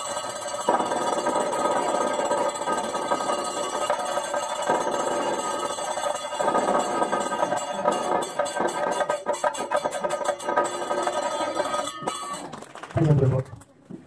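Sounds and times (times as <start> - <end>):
drums: 0.0 - 14.0.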